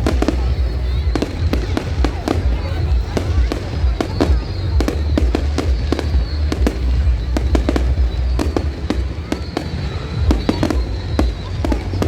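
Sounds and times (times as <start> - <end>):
fireworks bangs and crackles: 0.0 - 12.0
low rumble: 0.0 - 12.0
faint high whistle: 0.1 - 12.0.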